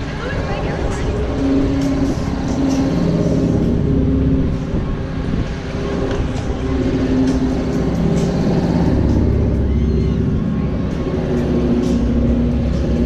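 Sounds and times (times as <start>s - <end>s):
low rumble: 0.0s - 13.0s
machinery hum: 0.0s - 13.0s
wind on microphone: 0.0s - 13.0s.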